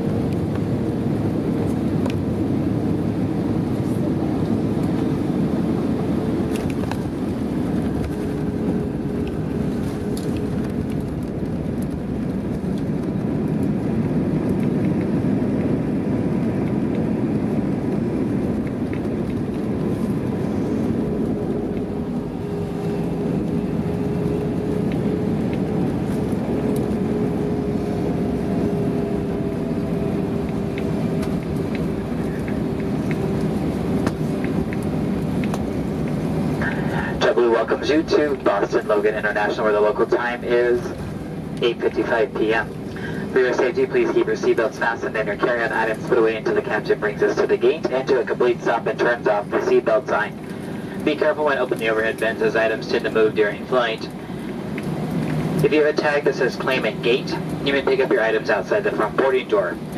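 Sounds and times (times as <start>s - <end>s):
faint engine hum: 0.0s - 59.9s
low rumble of engines and wheels: 0.0s - 59.9s.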